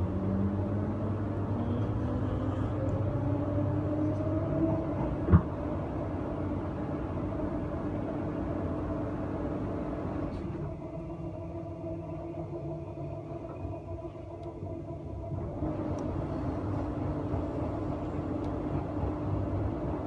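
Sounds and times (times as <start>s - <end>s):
steady hum: 0.0s - 20.0s
train carriage rumble: 0.0s - 20.0s.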